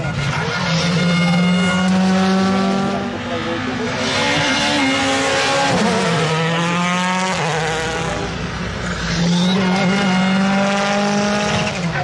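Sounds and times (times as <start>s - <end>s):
rally car engines at high revs: 0.0s - 12.0s.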